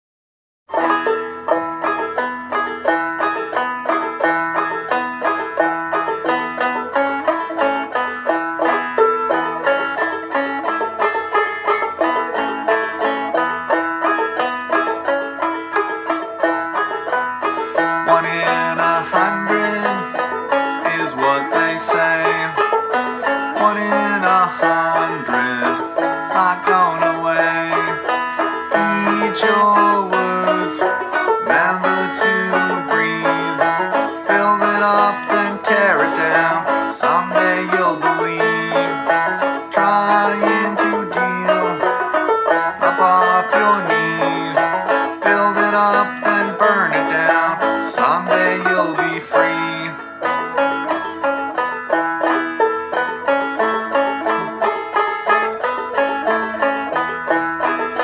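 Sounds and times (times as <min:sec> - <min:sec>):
clawhammer banjo tune: 0:00.7 - 0:58.0.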